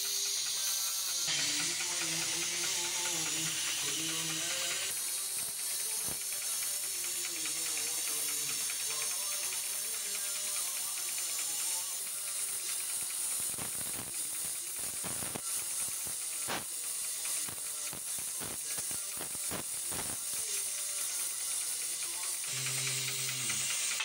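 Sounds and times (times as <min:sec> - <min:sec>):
welding torch hissing: 0:00.0 - 0:24.0.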